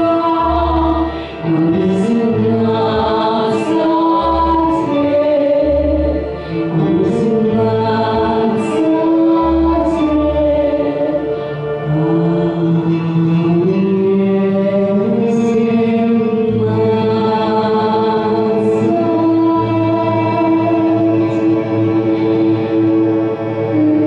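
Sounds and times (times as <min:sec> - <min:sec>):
slow song with held sung notes: 0:00.0 - 0:24.0.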